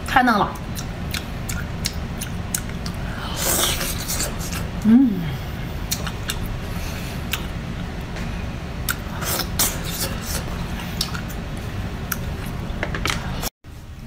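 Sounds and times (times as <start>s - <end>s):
low background hum: 0.0s - 14.0s
eating sounds: 0.6s - 8.0s, 8.8s - 13.5s.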